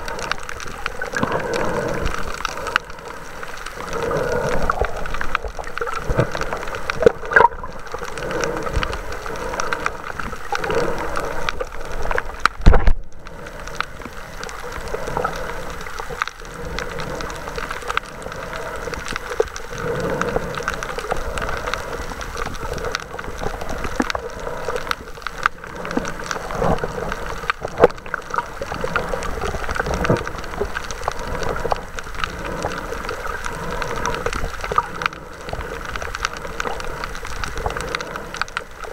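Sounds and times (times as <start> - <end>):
muffled underwater wash: 0.0 - 38.9.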